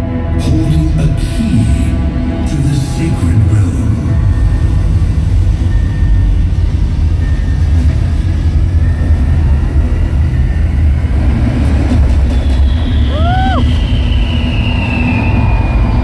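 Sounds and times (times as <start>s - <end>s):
deep bass electronic music: 0.0s - 16.0s.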